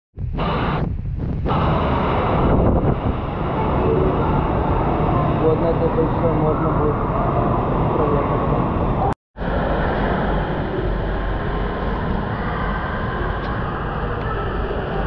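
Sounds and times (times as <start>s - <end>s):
echoing background noise: 1.5s - 15.0s.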